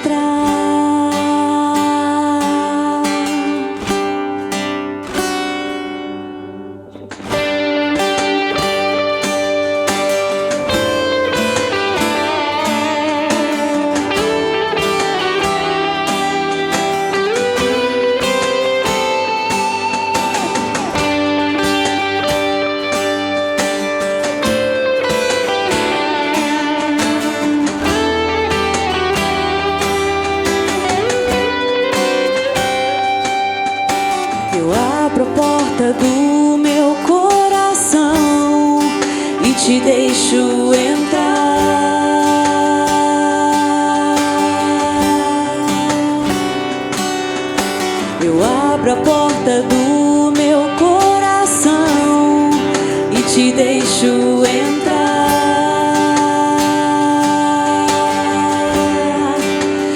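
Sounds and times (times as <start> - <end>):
electric guitar line: 0.0 - 59.9
percussion: 0.0 - 59.9
strummed acoustic guitars: 0.0 - 59.9.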